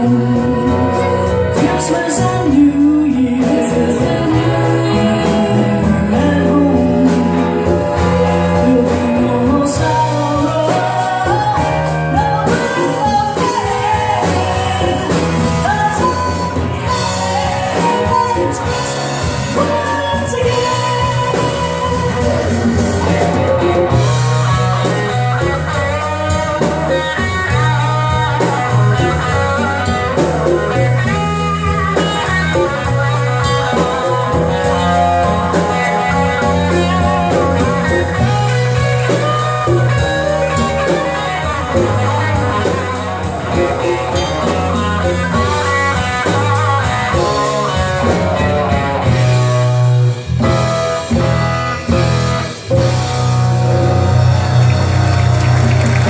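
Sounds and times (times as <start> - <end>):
slow blues band instrumental: 0.0 - 56.0.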